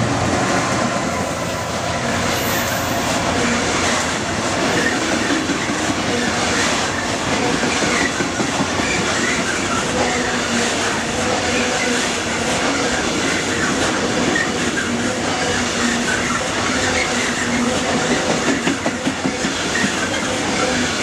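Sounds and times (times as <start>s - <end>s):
diesel locomotive engine: 0.0s - 21.0s
steel wheels rumbling on rails: 0.0s - 21.0s.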